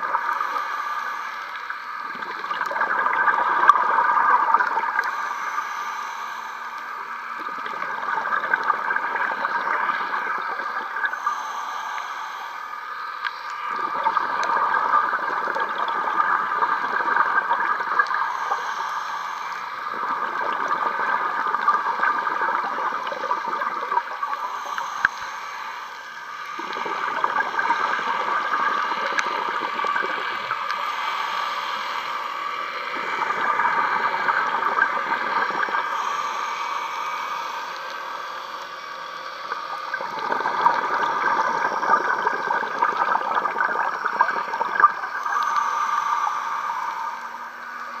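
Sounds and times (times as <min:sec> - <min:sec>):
exhaled bubbles gurgling: 0:00.0 - 0:05.6, 0:06.7 - 0:25.6, 0:26.3 - 0:48.0
scuba regulator breathing underwater: 0:00.0 - 0:48.0.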